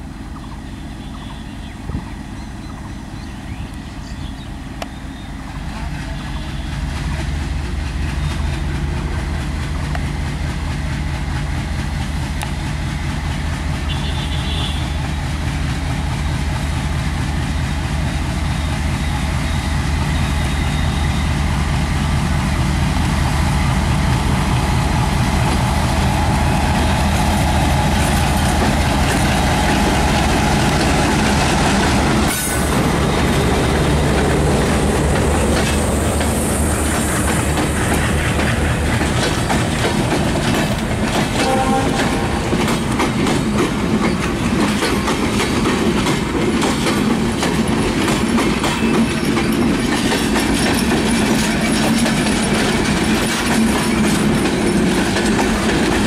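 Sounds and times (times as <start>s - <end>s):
diesel locomotive engine running: 0.0s - 56.0s
train wheels clacking over rail joints: 5.5s - 18.8s, 19.5s - 56.0s.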